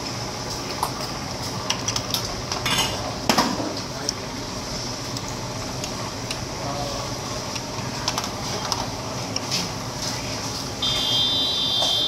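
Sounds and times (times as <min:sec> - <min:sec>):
food stall background noise: 0:00.0 - 0:12.0.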